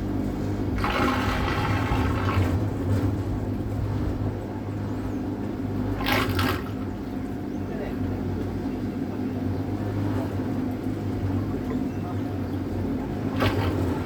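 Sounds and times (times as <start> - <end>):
boat motor hum: 0.0 - 14.0.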